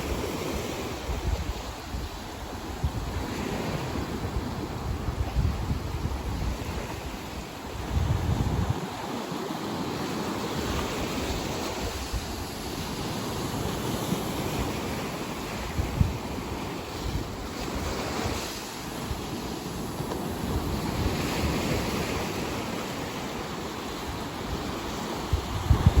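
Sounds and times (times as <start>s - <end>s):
surf washing in: 0.0s - 26.0s
waves breaking: 0.0s - 26.0s
wind buffeting microphone: 0.0s - 26.0s.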